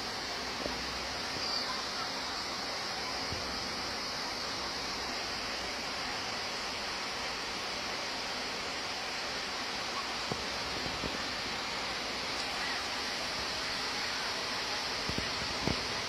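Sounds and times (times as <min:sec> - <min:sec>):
mountain stream rushing over rocks: 0:00.0 - 0:16.0.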